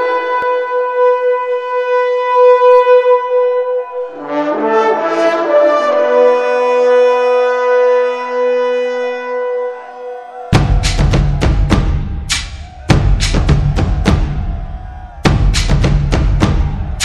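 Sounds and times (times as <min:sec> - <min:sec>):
wind instrument background music: 0:00.0 - 0:14.5.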